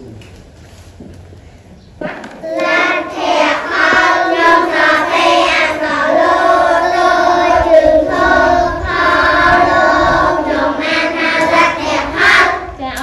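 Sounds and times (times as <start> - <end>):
children chanting in unison: 2.0 - 12.8.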